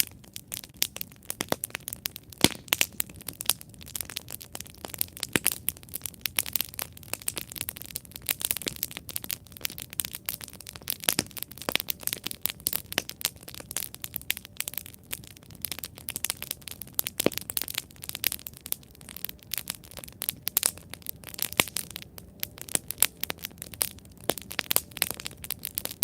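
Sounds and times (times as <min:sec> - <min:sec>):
campfire crackling and popping: 0:00.0 - 0:26.0
soft hiss of burning: 0:00.0 - 0:26.0.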